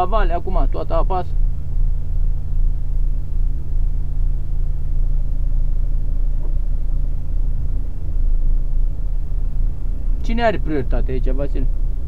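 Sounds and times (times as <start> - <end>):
truck engine and tyres drone: 0.0 - 12.0.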